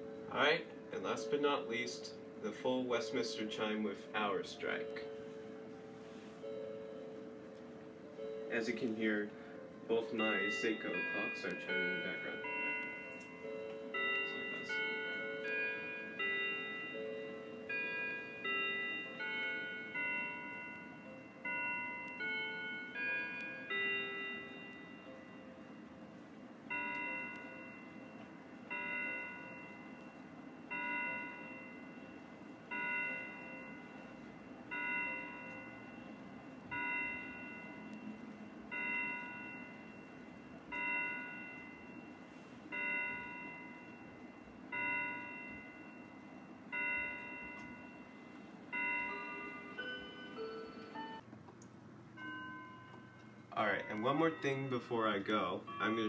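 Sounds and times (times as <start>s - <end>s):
faint clock chime notes: 0.0s - 51.2s, 52.2s - 56.0s
mantel clock striking: 7.4s - 25.9s, 26.6s - 51.3s, 52.2s - 56.0s.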